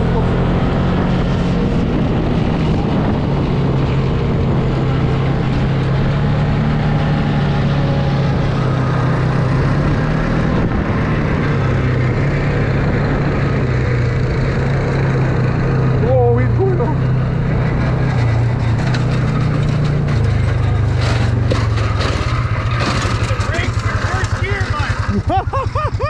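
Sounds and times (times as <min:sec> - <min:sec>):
atv engine droning: 0:00.0 - 0:26.0.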